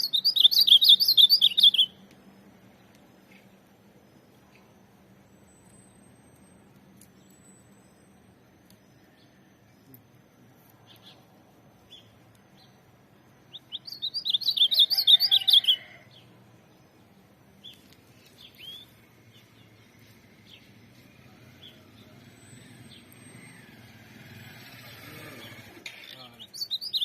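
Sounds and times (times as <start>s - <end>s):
bird singing rapid warbled notes: 0.0s - 27.0s.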